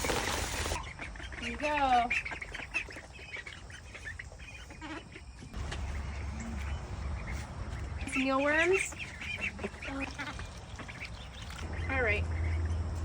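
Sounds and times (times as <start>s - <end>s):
chickens and ducks calling: 0.0s - 13.0s.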